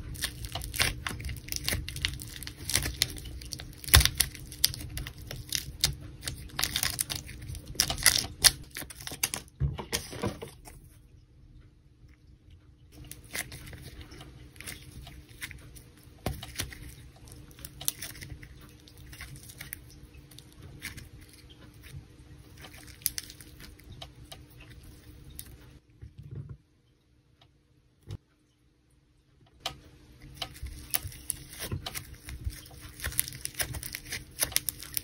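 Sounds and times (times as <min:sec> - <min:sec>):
foam dough crackling: 0:00.0 - 0:11.0, 0:12.9 - 0:25.8, 0:30.2 - 0:35.0.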